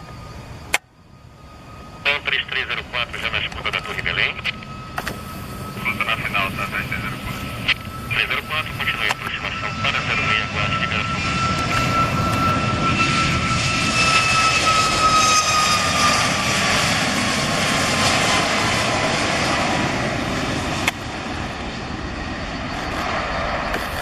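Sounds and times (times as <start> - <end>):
jet engine fan whine: 0.0 - 24.0.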